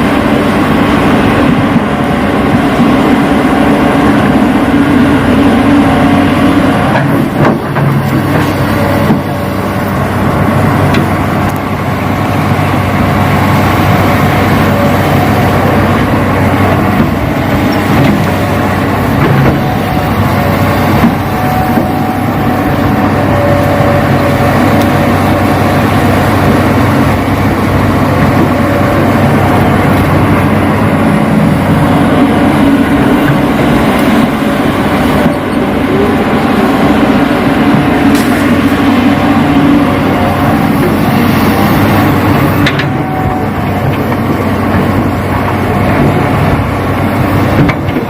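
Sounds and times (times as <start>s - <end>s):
model excavator motors droning: 0.0s - 48.0s.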